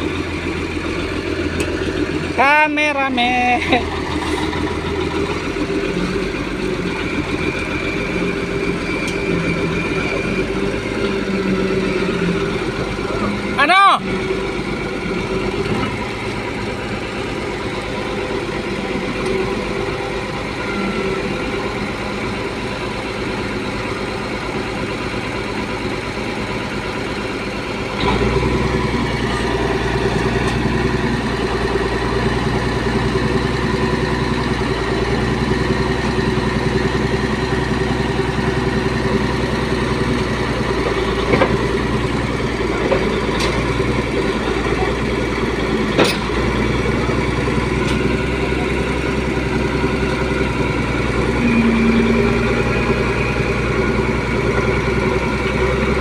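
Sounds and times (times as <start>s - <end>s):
heavy machine engine running: 0.0s - 56.0s.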